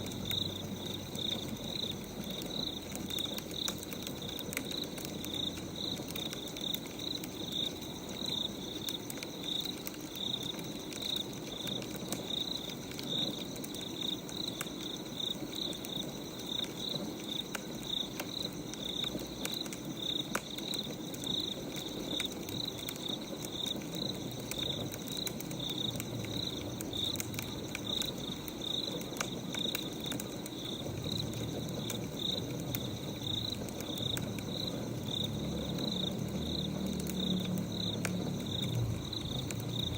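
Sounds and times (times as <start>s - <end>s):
crickets chirping: 0.0s - 39.9s
wood fire crackling: 0.0s - 39.9s.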